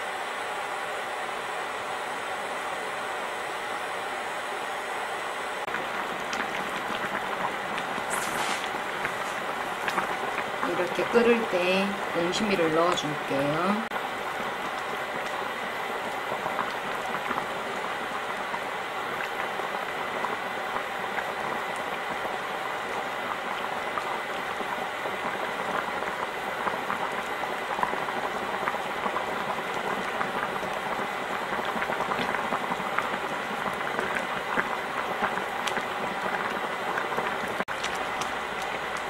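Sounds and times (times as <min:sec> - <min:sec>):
stew bubbling at a boil: 0:00.0 - 0:39.0.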